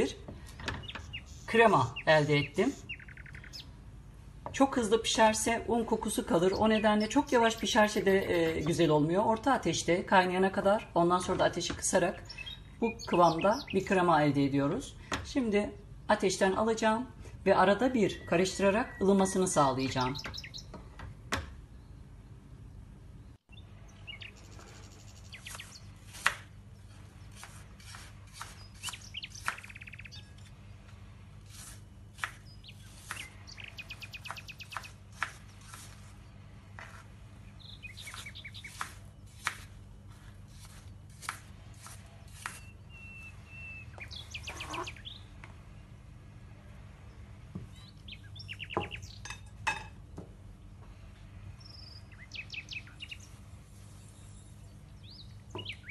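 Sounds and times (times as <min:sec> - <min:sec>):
small birds chirping: 0:00.0 - 0:03.9, 0:04.5 - 0:14.4, 0:18.1 - 0:20.9, 0:23.2 - 0:30.5, 0:31.4 - 0:46.0, 0:46.7 - 0:49.8, 0:50.5 - 0:55.9.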